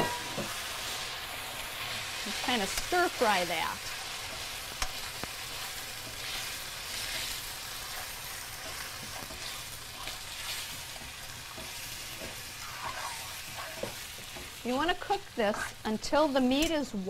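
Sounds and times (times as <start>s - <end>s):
meat sizzling in a wok: 0.0s - 17.0s
metal spoon scraping a pan: 0.0s - 17.0s.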